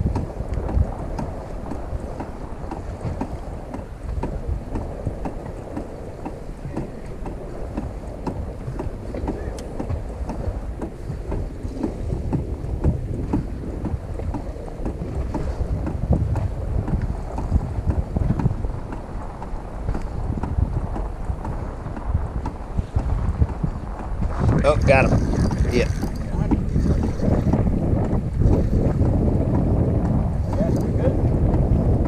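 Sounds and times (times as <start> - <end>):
water lapping against boat hull: 0.0 - 32.0
wind buffeting microphone: 0.0 - 32.0.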